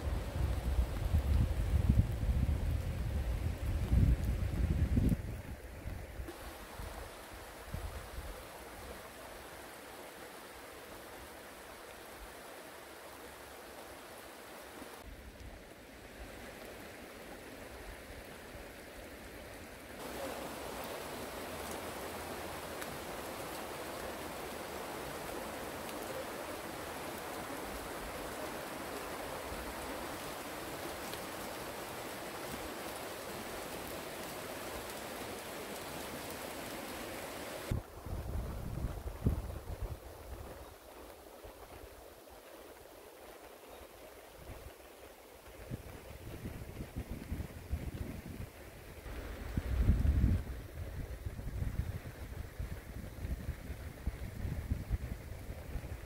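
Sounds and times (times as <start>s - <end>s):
stream running over stones: 0.0s - 56.0s.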